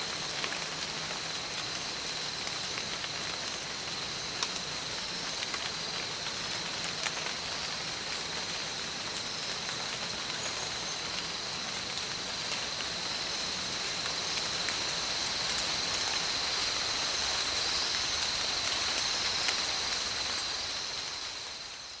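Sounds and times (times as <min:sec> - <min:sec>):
steady hiss like rain: 0:00.0 - 0:22.0.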